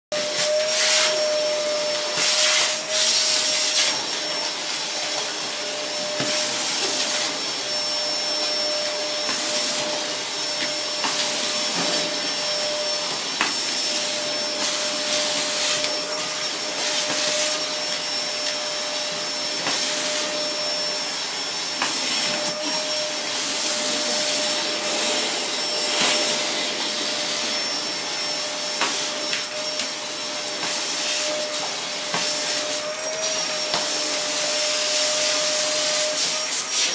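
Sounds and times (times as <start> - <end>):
vacuum cleaner whining and hissing: 0.1 - 36.9.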